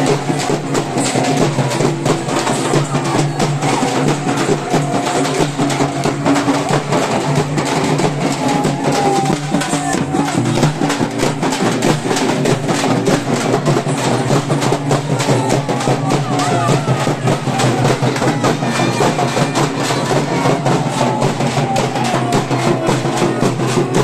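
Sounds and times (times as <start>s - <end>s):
large drums beaten: 0.0s - 24.0s.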